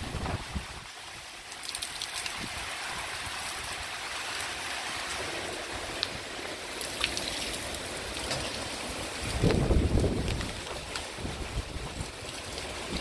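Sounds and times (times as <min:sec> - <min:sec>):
heavy rain hissing: 0:00.0 - 0:13.0
raindrops ticking close by: 0:00.7 - 0:13.0.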